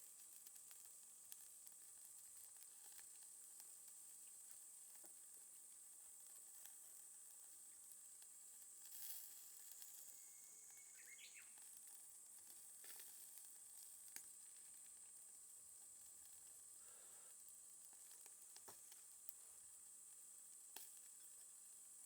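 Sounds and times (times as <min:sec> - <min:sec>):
charcoal fire sizzling hiss: 0:00.0 - 0:22.0
sharp fire crackles: 0:00.0 - 0:22.0.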